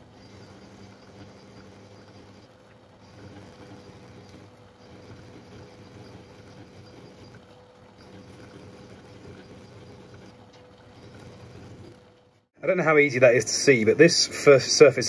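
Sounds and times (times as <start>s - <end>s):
lathe motor hum: 0.0s - 15.0s
steady whine: 0.0s - 15.0s.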